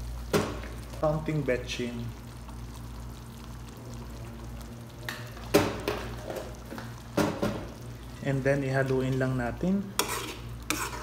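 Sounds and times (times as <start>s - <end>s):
sauce cooking in a pan: 0.0s - 11.0s.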